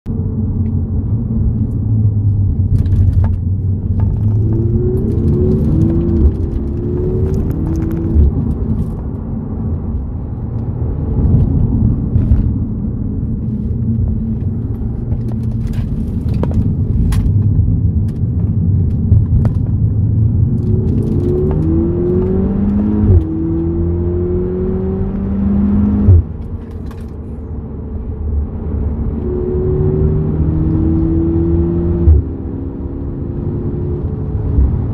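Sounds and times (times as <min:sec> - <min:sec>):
low road rumble: 0:00.1 - 0:34.9
car engine accelerating: 0:00.3 - 0:34.9.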